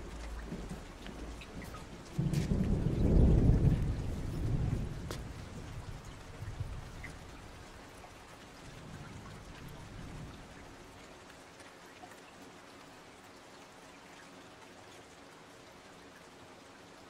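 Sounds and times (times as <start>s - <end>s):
rain hiss: 0.0s - 17.0s
small drips: 0.0s - 17.0s.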